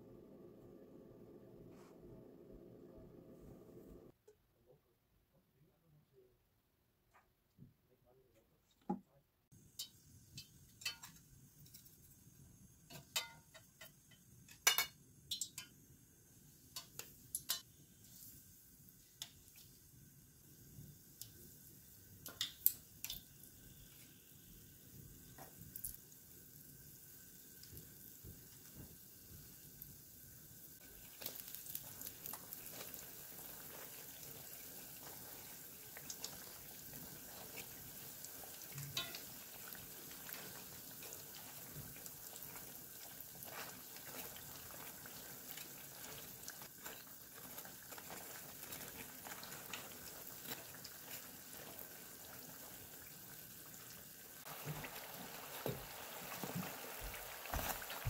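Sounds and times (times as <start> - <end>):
oil sizzling: 9.6 - 58.0.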